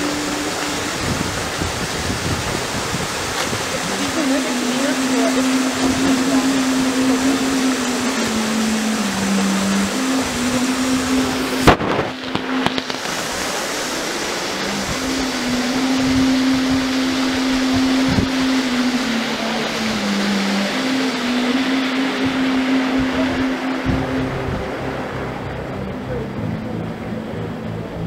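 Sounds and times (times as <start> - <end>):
low hum: 0.0 - 28.0
water splashing and sloshing: 0.0 - 28.0.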